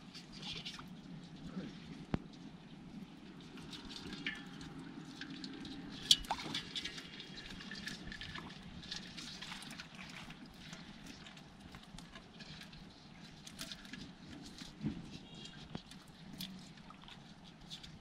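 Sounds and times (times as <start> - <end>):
water dripping and splashing in bucket: 0.0 - 18.0.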